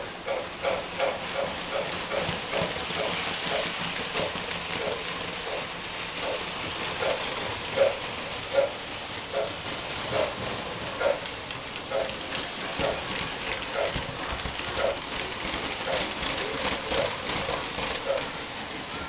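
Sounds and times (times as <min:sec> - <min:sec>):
model train wheels rattling: 0:00.0 - 0:19.0.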